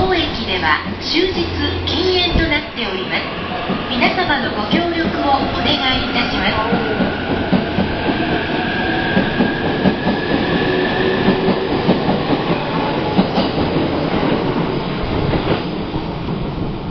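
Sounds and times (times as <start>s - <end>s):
high train motor whine: 0.0s - 16.9s.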